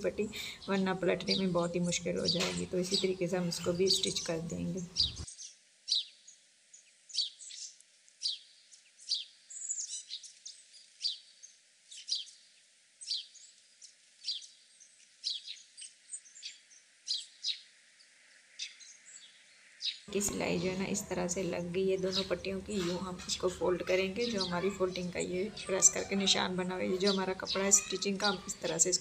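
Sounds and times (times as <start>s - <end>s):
bird chirping: 0.0s - 17.7s, 18.6s - 29.0s.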